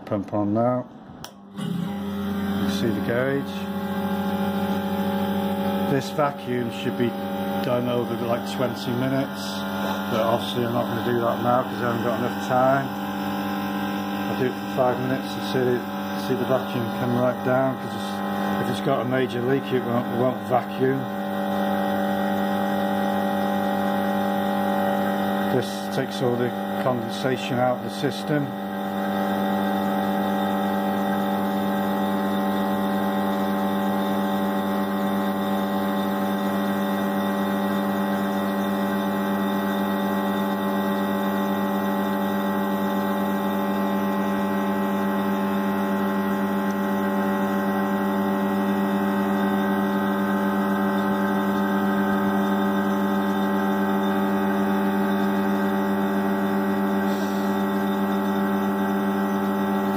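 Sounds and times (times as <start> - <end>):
vacuum pump humming: 0.0 - 59.9.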